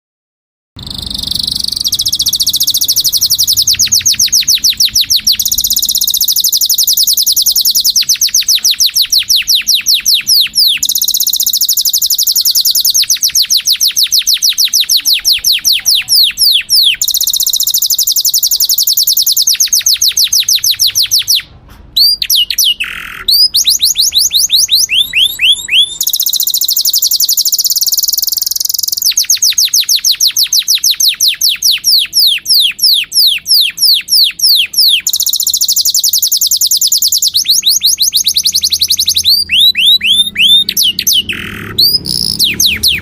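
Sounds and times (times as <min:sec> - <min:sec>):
canary singing trills: 0:00.8 - 0:43.0.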